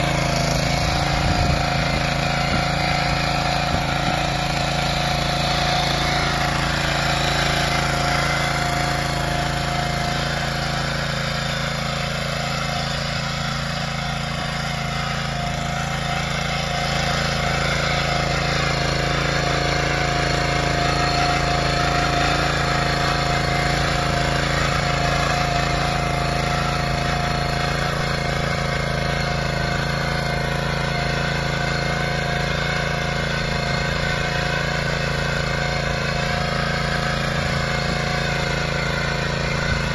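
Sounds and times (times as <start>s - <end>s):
rotary tiller engine running: 0.0s - 39.9s.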